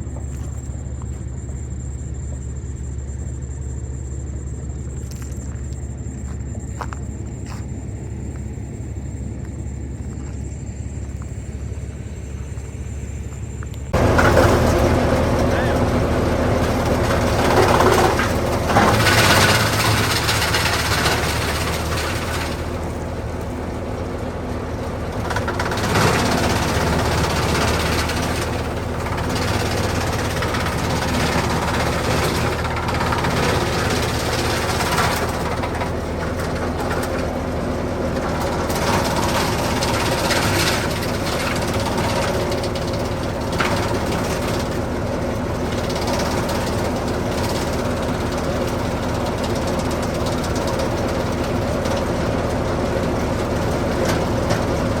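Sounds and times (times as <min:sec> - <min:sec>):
noisy chipper surges: 0:00.0 - 0:55.0
wood chipper running: 0:00.0 - 0:55.0.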